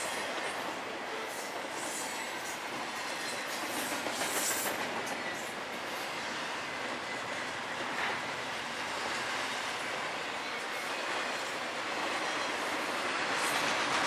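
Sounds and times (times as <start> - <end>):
freight train wheels rattling on rail: 0.0 - 14.0.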